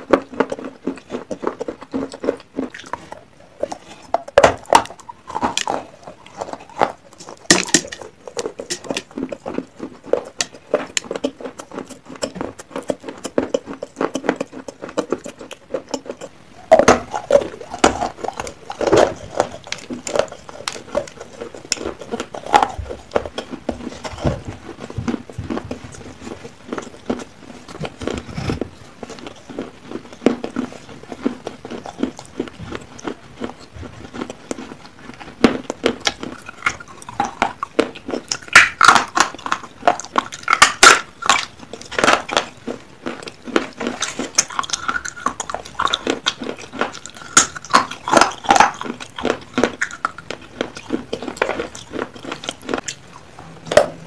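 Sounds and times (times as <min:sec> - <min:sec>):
clay pieces crunching when chewed: 0:00.0 - 0:54.0.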